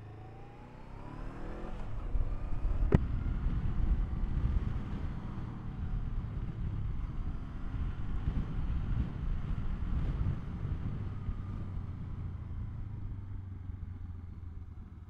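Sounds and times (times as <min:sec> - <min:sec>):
motorcycle engine pulling away: 0:00.0 - 0:15.0.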